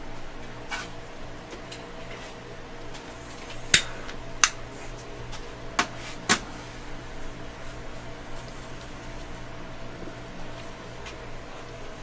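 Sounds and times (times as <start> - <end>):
machine hum: 1.2 - 12.0.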